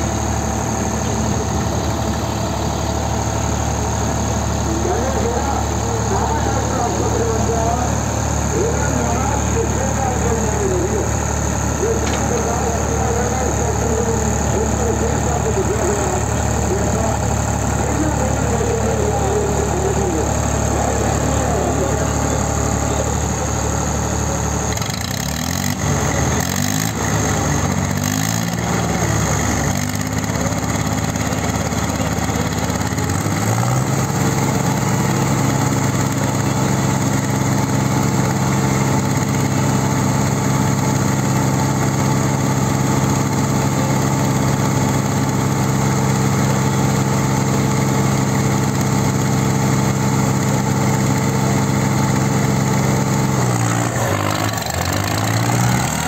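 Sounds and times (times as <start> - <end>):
tractor engines running under load: 0.0 - 56.0.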